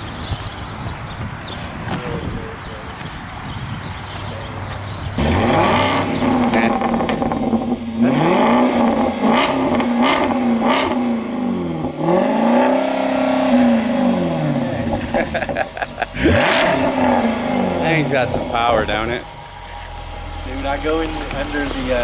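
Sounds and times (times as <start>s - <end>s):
car engine revving: 4.0s - 22.0s.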